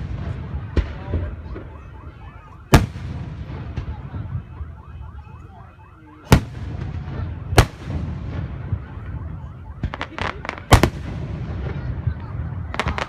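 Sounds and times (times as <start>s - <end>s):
fireworks bangs: 0.0s - 13.0s
low rumble of fireworks: 0.0s - 13.0s.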